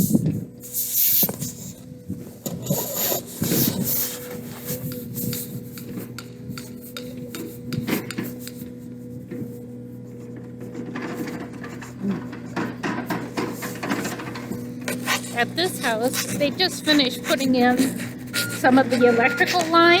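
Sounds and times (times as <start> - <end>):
steady low hum: 0.0 - 20.0
rubbing and scuffing on microphone: 2.5 - 20.0.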